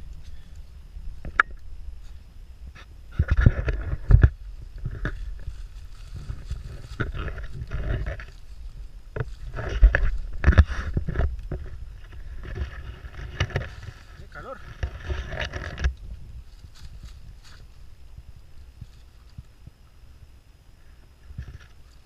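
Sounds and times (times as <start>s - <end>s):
footsteps crunching: 0.0s - 19.8s
brush rustling: 0.0s - 22.0s
microphone handling noise: 0.0s - 22.0s
wind rumble: 0.0s - 22.0s.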